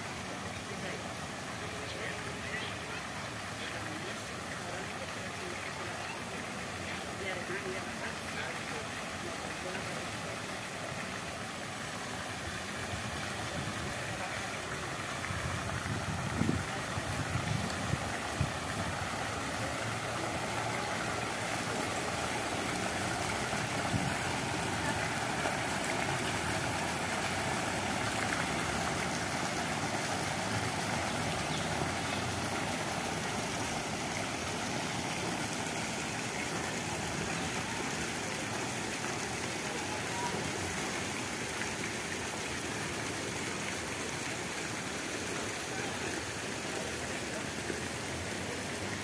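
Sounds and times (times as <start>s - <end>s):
fountain water splashing: 0.0s - 49.0s.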